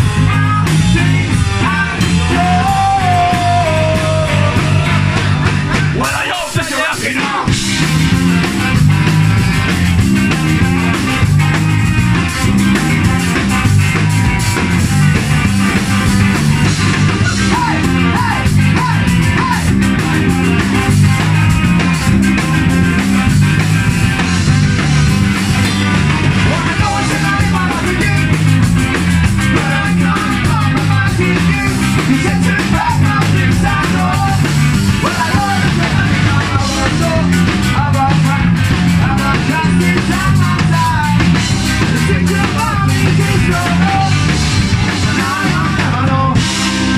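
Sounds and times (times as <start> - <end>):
drum kit: 0.0 - 46.9
electric bass: 0.0 - 46.9
guitar: 0.0 - 46.9.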